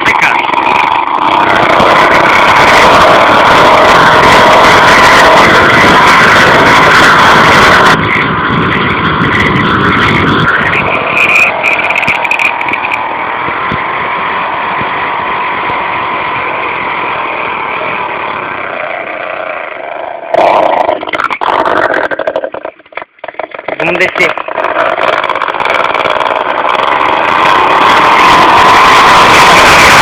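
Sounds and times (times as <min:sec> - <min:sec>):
vehicle engine running loudly: 0:00.0 - 0:22.7, 0:23.7 - 0:30.0.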